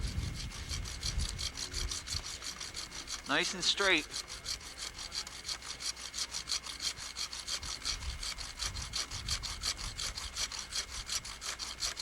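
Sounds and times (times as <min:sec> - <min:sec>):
hand saw cutting wood: 0:00.0 - 0:12.0.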